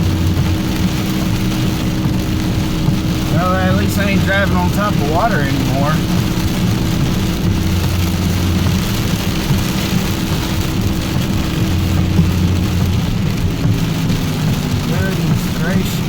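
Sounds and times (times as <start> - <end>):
heavy rain on a truck: 0.0 - 16.0
truck engine hum: 0.0 - 16.0.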